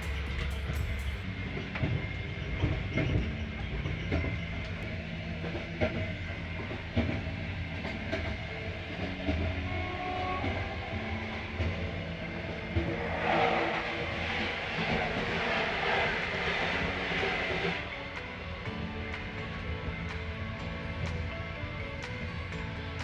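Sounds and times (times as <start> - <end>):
train carriages rumbling: 0.0 - 23.0
wheels clacking on track: 0.0 - 23.0.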